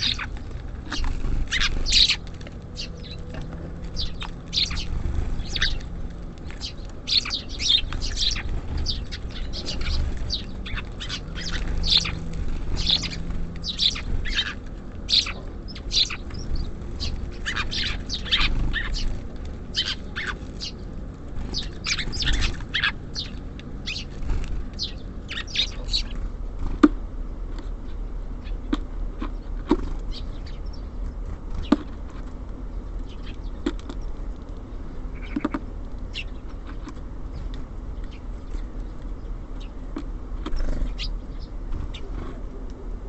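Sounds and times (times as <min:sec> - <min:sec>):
low steady rumble: 0:00.0 - 0:43.0
songbirds chirping: 0:00.0 - 0:43.0.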